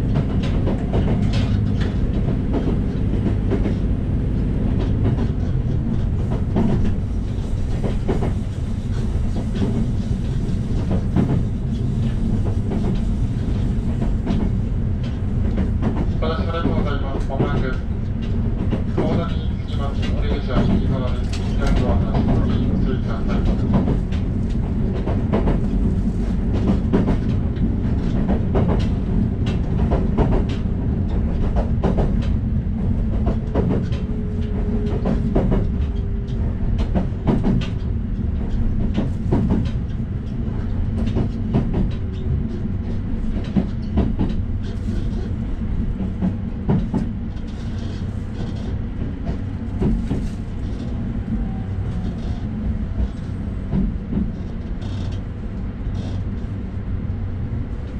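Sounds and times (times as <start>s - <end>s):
train engine and wheels rumbling: 0.0s - 57.9s.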